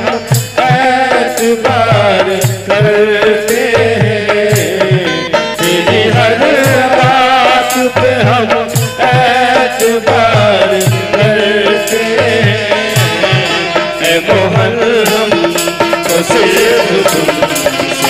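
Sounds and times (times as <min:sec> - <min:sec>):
dholak drum beating: 0:00.0 - 0:18.0.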